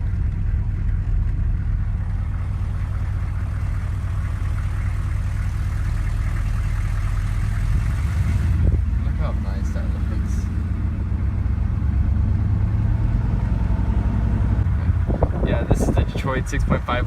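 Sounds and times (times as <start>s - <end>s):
diesel engine deep drone: 0.0s - 17.0s.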